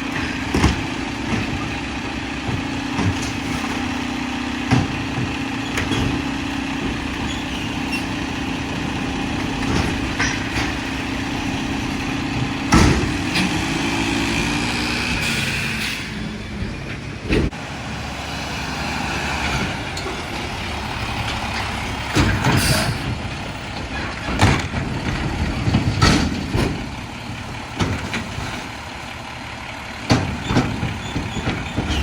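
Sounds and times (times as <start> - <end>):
garbage truck running: 0.0 - 32.0.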